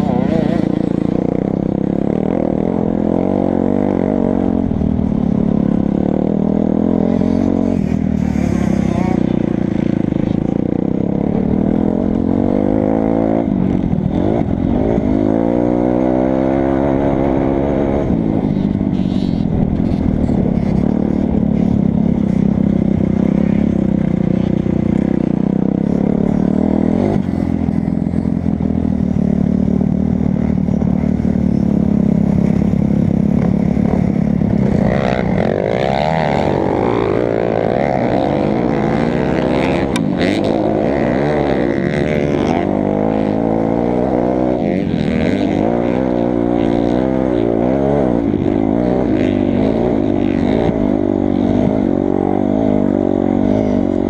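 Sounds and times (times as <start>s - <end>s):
dirt bike engine running hard: 0.0s - 54.0s.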